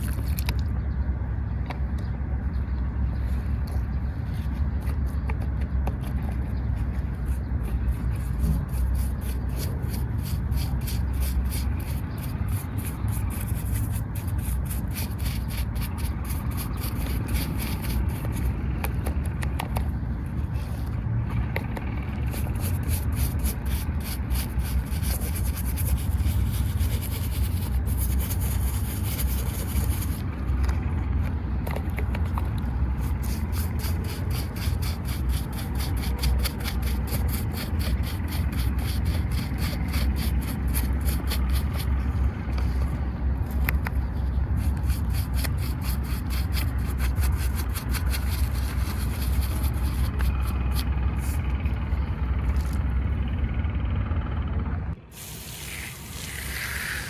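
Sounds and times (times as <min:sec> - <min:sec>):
steady low hum: 0:00.0 - 0:57.0
steady low rumble: 0:00.0 - 0:57.0
scrubbing and scraping toy car: 0:04.2 - 0:19.9, 0:20.5 - 0:30.9, 0:31.6 - 0:51.6, 0:55.2 - 0:57.0.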